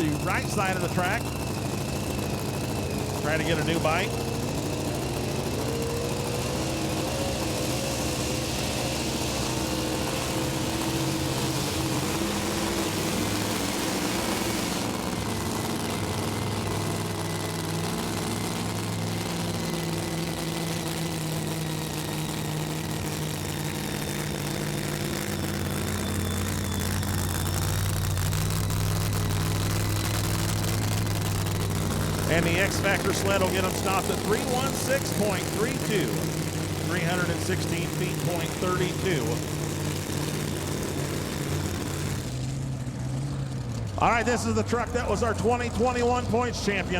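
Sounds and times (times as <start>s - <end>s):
truck engine running hard: 0.0s - 46.9s.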